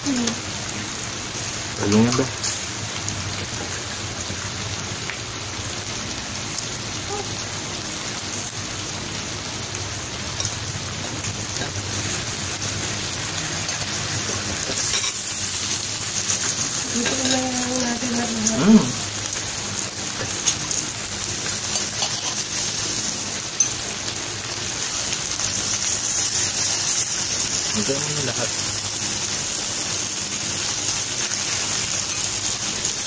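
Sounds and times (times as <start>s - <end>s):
meat sizzling on grill: 0.0s - 33.0s.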